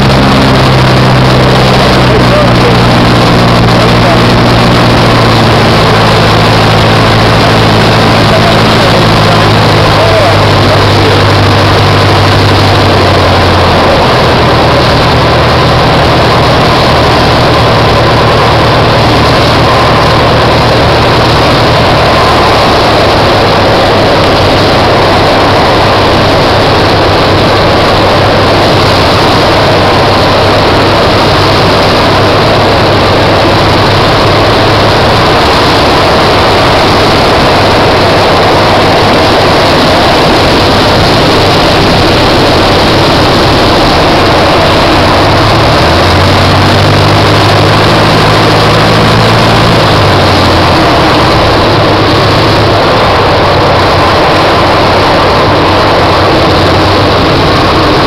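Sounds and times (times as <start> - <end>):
aircraft engine and propeller: 0.0 - 58.0
rush of air: 0.0 - 58.0.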